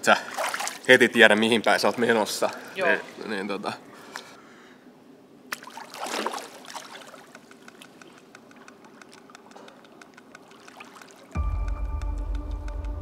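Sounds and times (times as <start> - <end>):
pool water splashing: 0.0 - 4.6, 5.3 - 11.4.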